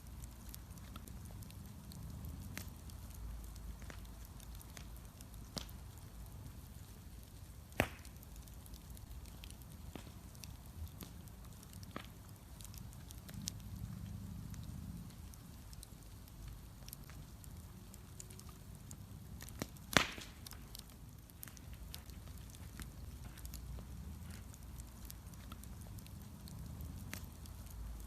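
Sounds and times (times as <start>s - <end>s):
bonfire crackling and popping: 0.0s - 28.0s
fire low rumble: 0.0s - 28.0s.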